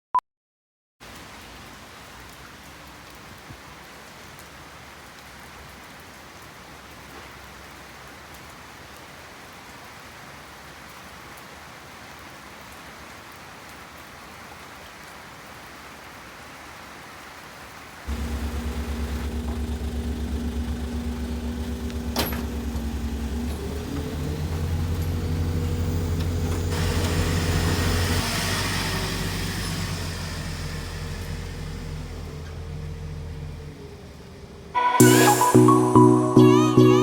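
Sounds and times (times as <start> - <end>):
steady rain falling: 1.0 - 34.8.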